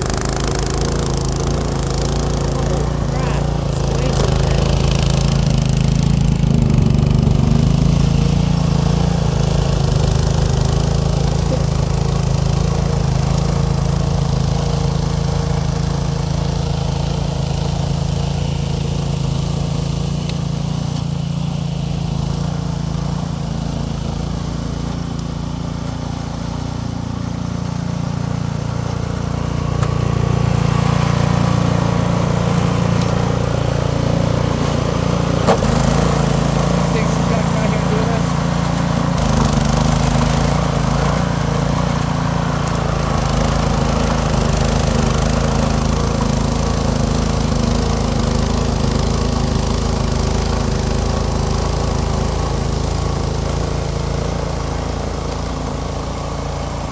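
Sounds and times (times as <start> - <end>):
snow blower engine running: 0.0 - 56.9.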